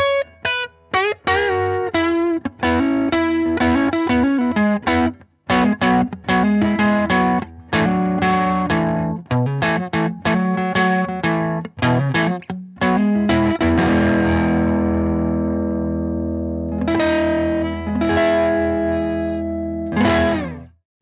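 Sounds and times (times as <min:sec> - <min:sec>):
overdriven electric guitar: 0:00.0 - 0:20.8.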